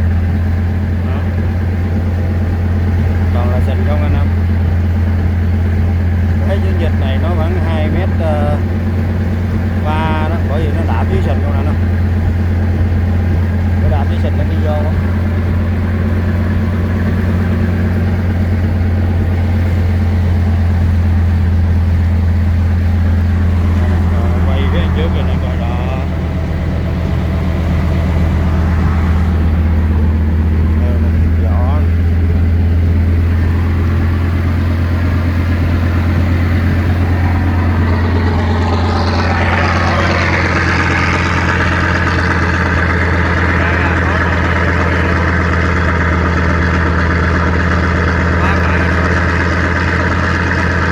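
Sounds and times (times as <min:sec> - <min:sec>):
boat engine droning: 0:00.0 - 0:50.9.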